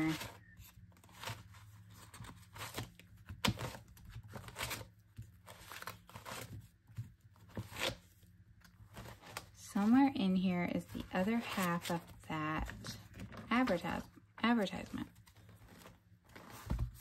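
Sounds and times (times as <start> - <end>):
paper pages turning: 0.0 - 10.0, 10.7 - 17.0.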